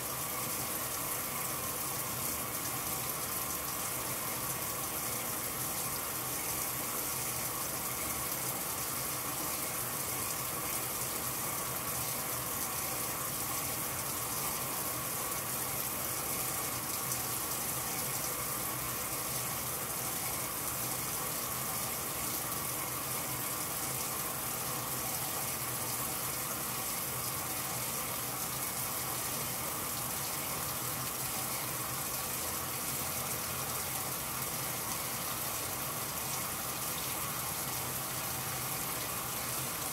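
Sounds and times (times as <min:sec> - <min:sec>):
water pouring into washer tub: 0:00.0 - 0:39.9.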